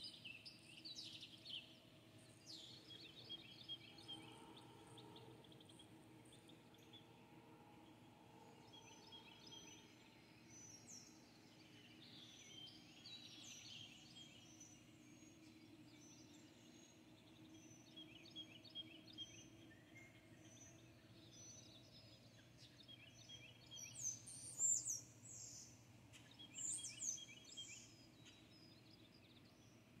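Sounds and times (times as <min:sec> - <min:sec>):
faint low hum: 0:00.0 - 0:30.0
songbirds chirping: 0:00.0 - 0:30.0.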